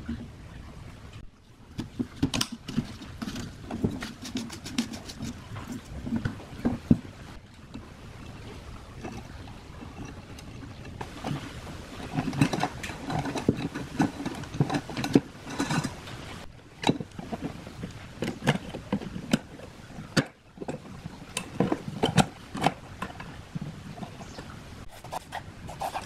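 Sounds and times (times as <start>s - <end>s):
wire rustling and scraping: 1.7s - 26.0s.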